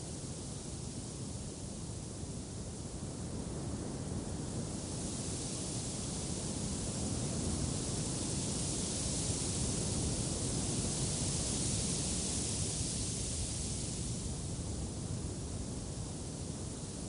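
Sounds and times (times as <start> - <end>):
steady wind noise: 0.0 - 17.0.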